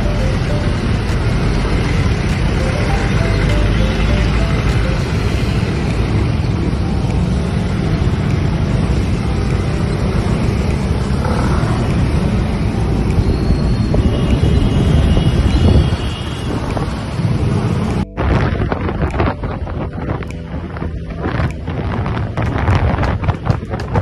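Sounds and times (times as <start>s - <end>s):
vehicle road and engine rumble: 0.0s - 24.0s
wind on microphone: 4.0s - 24.0s.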